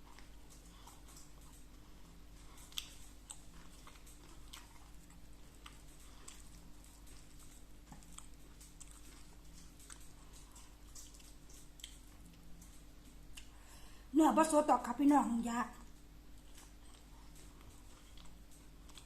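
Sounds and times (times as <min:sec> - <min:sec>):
person chewing food: 0:00.0 - 0:14.1, 0:15.8 - 0:19.0.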